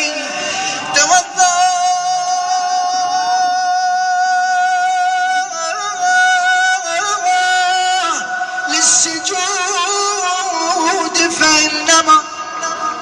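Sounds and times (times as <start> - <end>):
person singing religious chant: 0.0 - 13.0.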